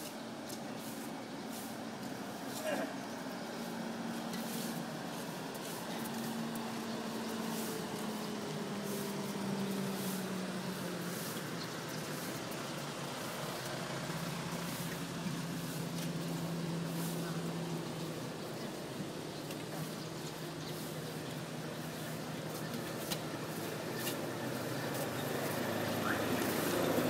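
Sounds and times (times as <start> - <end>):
street background noise: 0.0 - 27.0.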